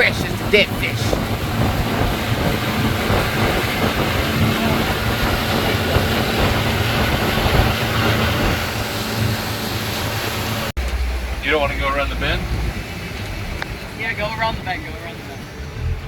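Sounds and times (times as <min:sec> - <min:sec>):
outboard motor humming: 0:00.0 - 0:16.0
wind and water rushing: 0:00.0 - 0:16.0.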